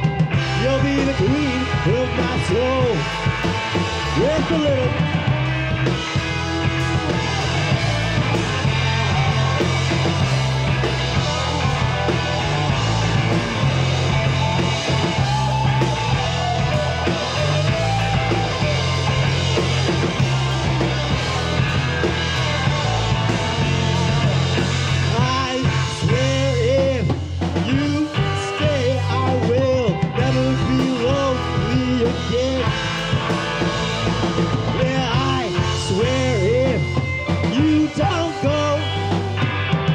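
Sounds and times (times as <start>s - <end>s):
bending electric guitar lead: 0.0s - 39.9s
rock band playing live: 0.0s - 39.9s.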